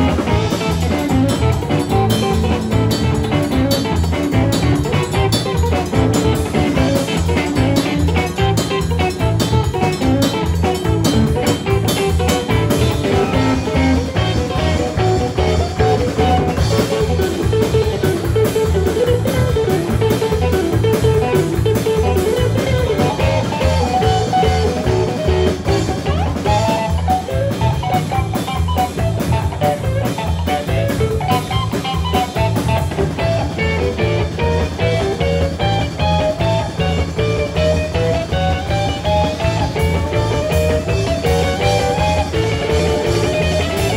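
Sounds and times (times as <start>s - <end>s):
bass guitar: 0.0s - 43.9s
drum kit steady beat: 0.0s - 43.9s
electric guitar lead runs: 0.0s - 43.9s.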